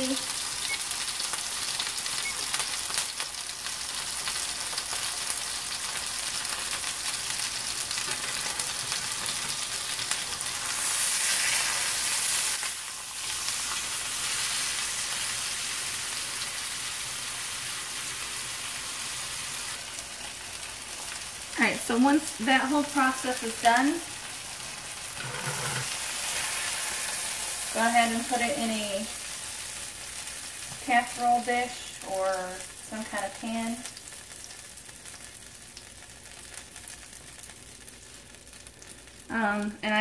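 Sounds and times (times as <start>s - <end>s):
meat sizzling in skillet: 0.0s - 39.8s.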